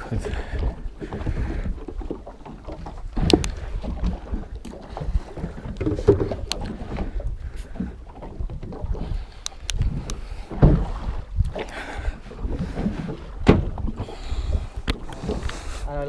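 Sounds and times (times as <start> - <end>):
sea and boat noise: 0.0 - 16.0
wind buffeting microphone: 0.0 - 16.0.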